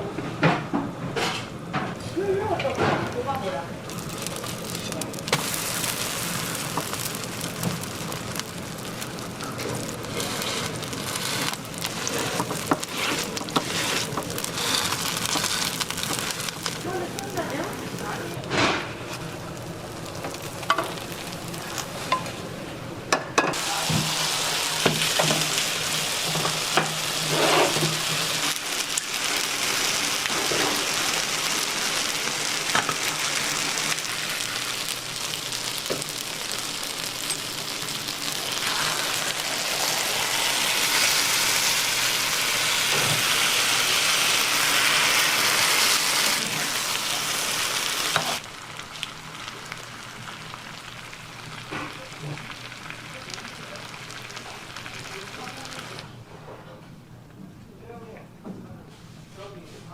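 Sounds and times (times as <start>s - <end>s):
food sizzling in a pan: 2.2s - 22.7s, 23.4s - 56.2s.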